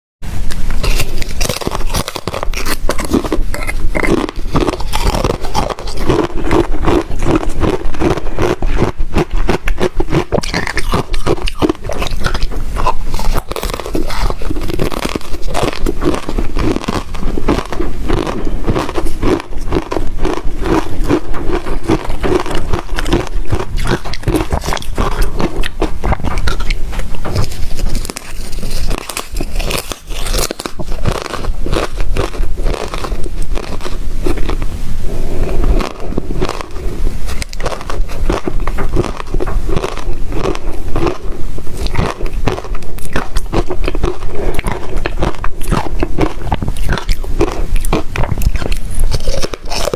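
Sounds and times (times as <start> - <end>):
ice crunching between teeth: 0.5 - 34.6, 35.7 - 49.9.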